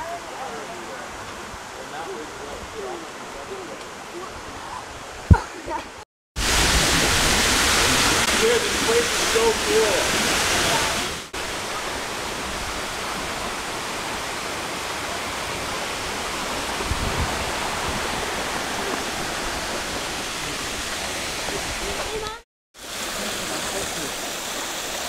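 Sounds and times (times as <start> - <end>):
stream and small waterfall rushing: 0.0 - 25.0.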